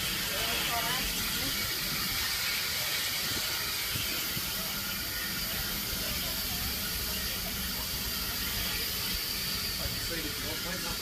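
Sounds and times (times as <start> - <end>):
locomotive low rumble: 0.0 - 11.0
steam hissing: 0.0 - 11.0.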